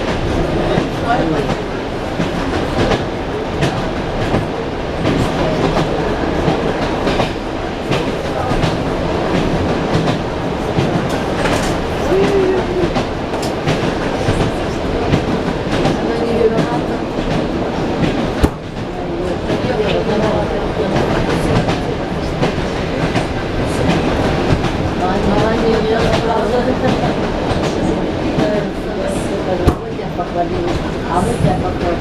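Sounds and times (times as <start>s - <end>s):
train rumble inside carriage: 0.0s - 32.0s.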